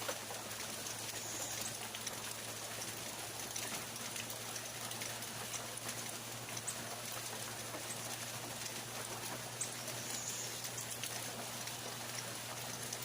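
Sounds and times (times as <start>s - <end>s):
constant low hum: 0.0s - 13.0s
steady rain falling: 0.0s - 13.0s.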